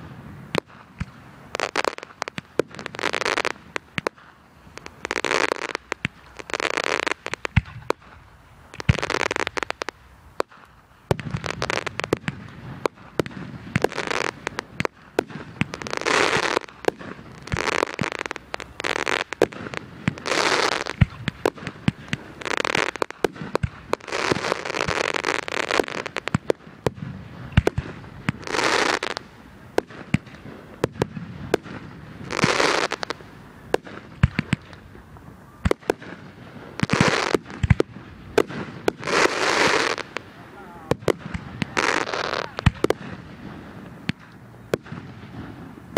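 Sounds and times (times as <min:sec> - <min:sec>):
fireworks popping and banging: 0:00.0 - 0:45.9
fireworks rushing burst: 0:00.0 - 0:45.9.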